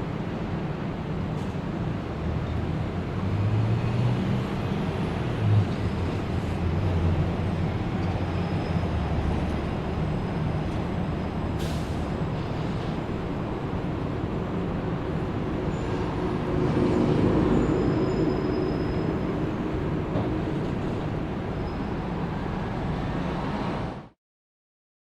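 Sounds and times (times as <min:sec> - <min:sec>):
traffic rumble: 0:00.1 - 0:24.0.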